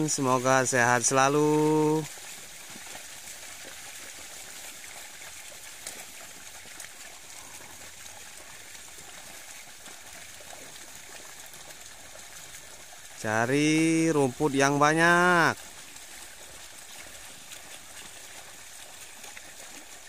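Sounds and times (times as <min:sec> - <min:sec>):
buffalo splashing through water: 0:00.0 - 0:20.0.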